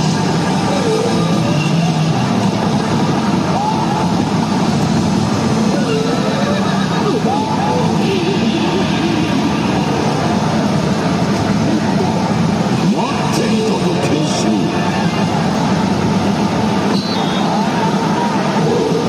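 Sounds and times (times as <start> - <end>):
gaming hall din: 0.0 - 19.0.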